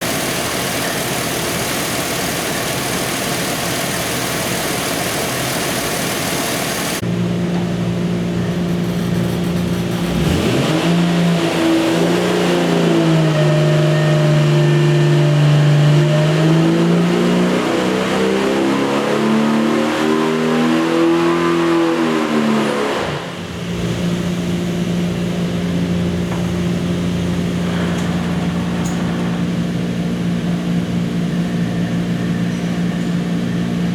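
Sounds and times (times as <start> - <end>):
engine running on dyno: 0.0 - 33.9.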